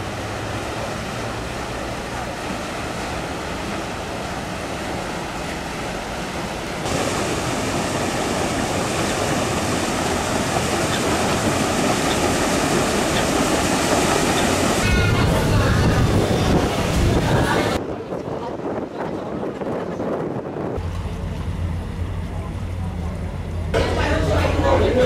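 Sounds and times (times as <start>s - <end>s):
paddle wheels churning water: 0.0s - 25.0s.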